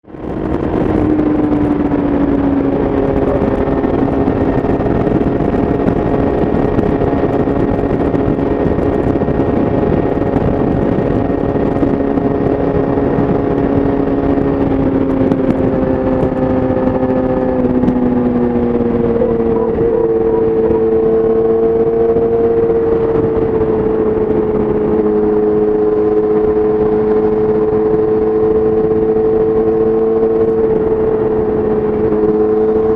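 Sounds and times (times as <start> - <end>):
motorcycle engine riding: 0.0 - 32.9
wind and road noise: 0.0 - 32.9.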